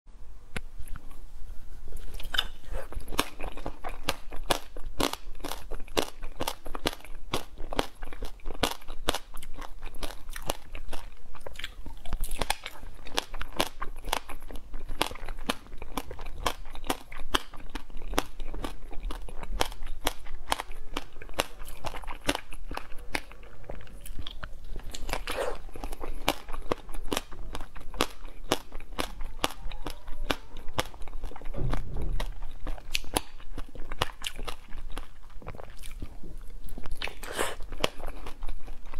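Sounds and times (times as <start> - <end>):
crunching frozen ice cream: 2.0 - 38.9.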